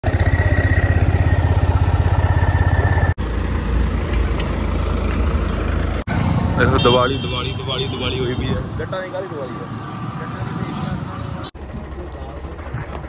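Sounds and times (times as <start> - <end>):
tractor diesel engine running: 0.0 - 6.9, 8.6 - 13.0.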